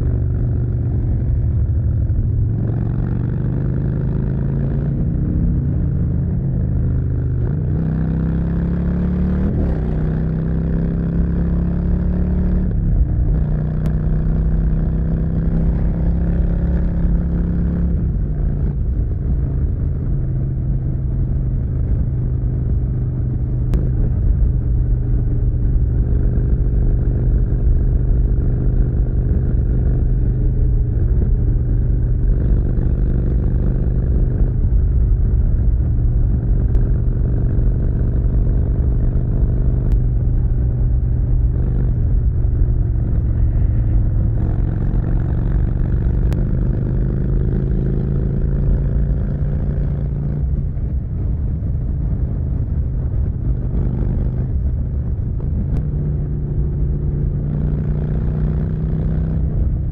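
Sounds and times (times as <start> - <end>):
motorcycle exhaust at highway speed: 0.0 - 59.9.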